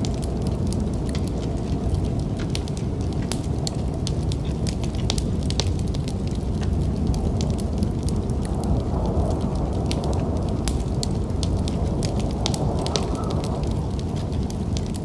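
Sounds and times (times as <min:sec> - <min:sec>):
low rumble of wind: 0:00.0 - 0:15.0
wood fire crackling and popping: 0:00.0 - 0:15.0.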